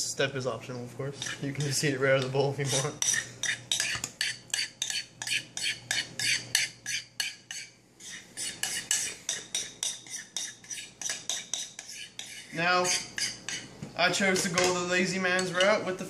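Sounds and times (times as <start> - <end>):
utensil scraping a bowl: 1.1 - 15.9.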